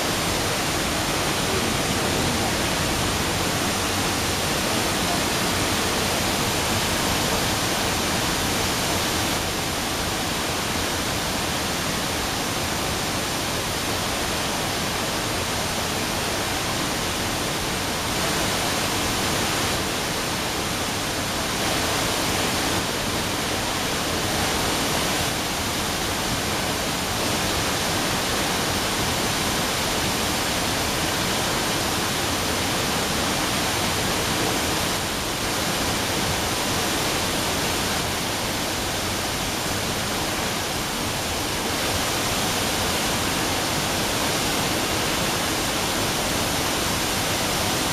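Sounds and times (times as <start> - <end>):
roar of falling water: 0.0 - 47.9.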